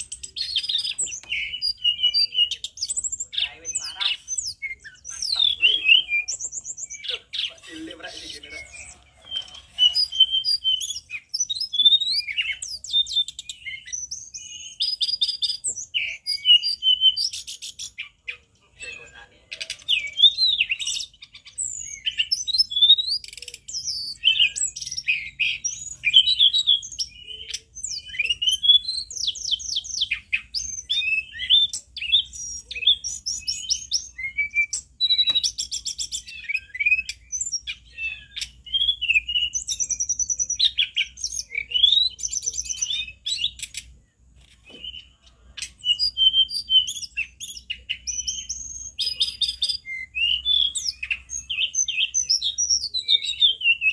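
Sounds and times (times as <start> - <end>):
bird singing whistled phrases: 0.0 - 43.9, 44.6 - 53.9.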